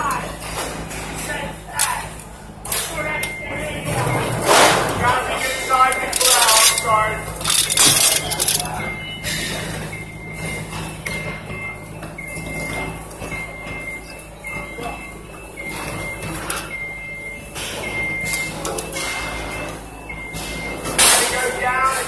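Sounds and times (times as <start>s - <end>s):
diesel engine running: 0.0s - 22.0s
reversing alarm beeping: 2.7s - 22.0s.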